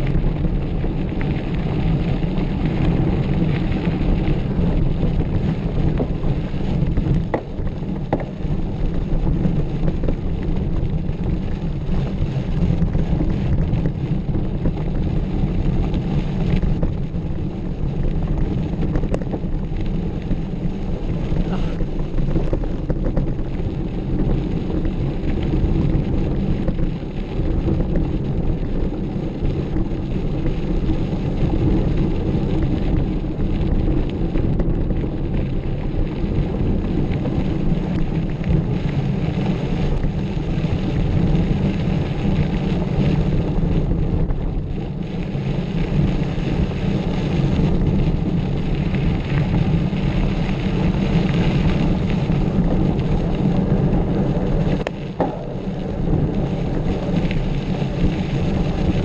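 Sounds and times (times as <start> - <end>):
bike tyres on trail: 0.0 - 59.0
wind buffeting microphone: 0.0 - 59.0.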